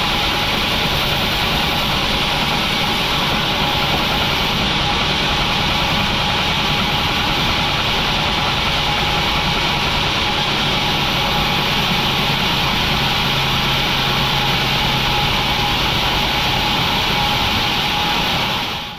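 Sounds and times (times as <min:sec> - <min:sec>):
machinery hum: 0:00.0 - 0:18.9
sawmill machinery hiss: 0:00.0 - 0:18.9.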